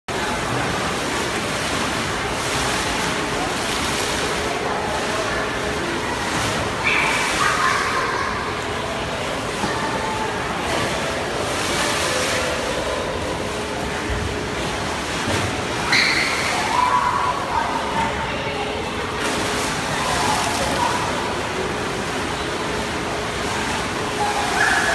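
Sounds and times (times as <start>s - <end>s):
pool water sloshing and splashing: 0.1s - 24.9s.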